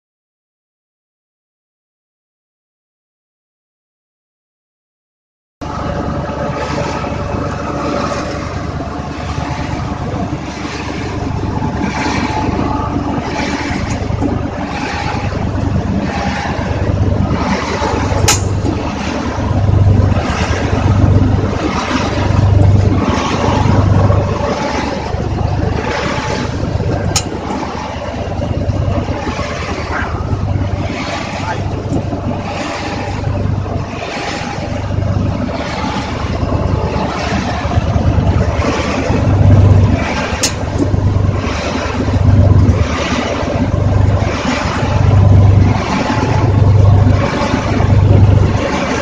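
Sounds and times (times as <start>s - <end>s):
pin mill grinding whirr: 5.6s - 49.0s.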